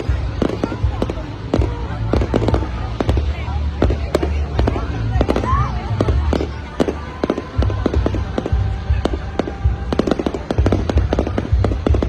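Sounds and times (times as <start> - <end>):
deep fireworks booming: 0.0 - 12.0
fireworks bangs and crackles: 0.0 - 12.0.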